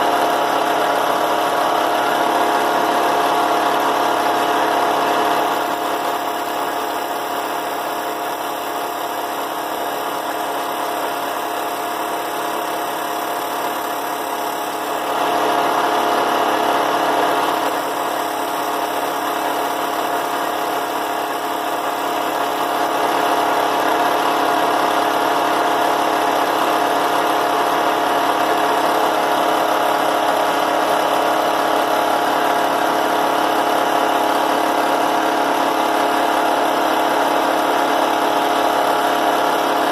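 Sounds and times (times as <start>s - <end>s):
drill press motor humming: 0.0s - 39.9s.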